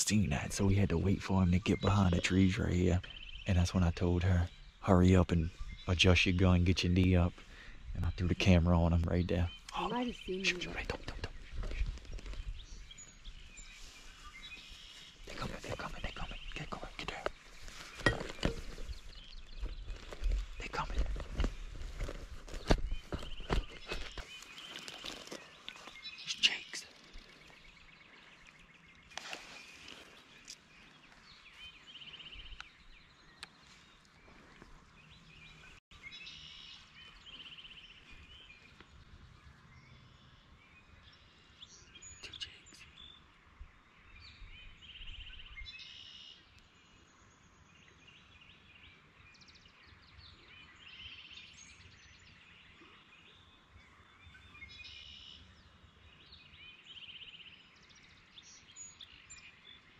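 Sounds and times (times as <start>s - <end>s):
faint songbirds singing: 0.0s - 59.9s.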